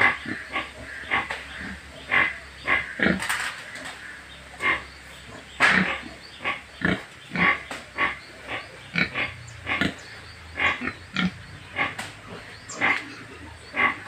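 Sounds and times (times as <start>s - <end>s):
pigs grunting: 0.0s - 14.0s.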